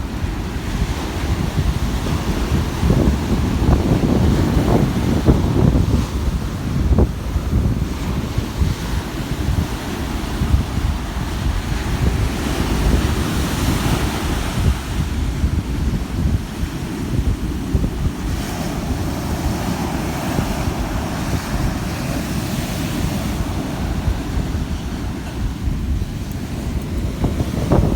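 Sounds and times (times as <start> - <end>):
ocean waves washing in: 0.0 - 27.9
wind buffeting microphone: 0.0 - 27.9.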